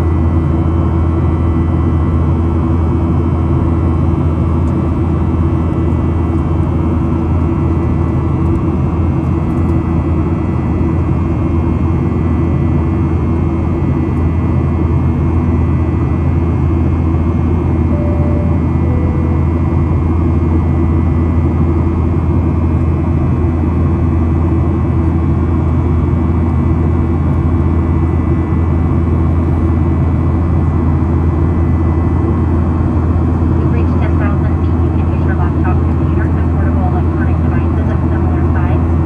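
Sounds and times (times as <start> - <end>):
jet engines droning: 0.0 - 39.0.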